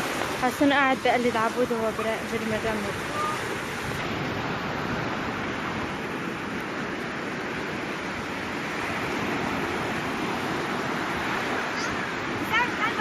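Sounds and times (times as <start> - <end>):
sea surf washing: 0.0 - 13.0
wind on microphone: 0.0 - 13.0.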